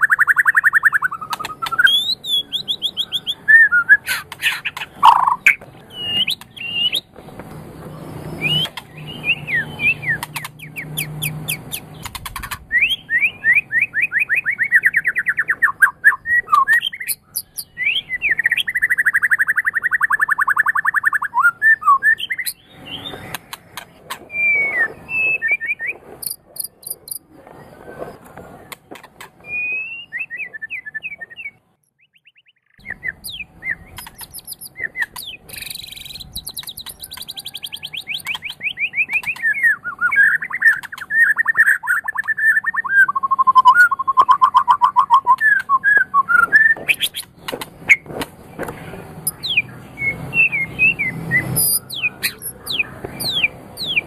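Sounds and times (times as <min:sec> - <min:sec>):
songbird singing whistled phrases: 0:00.0 - 0:07.1, 0:08.3 - 0:12.0, 0:12.7 - 0:23.3, 0:24.3 - 0:27.2, 0:29.4 - 0:47.3, 0:49.2 - 0:54.0.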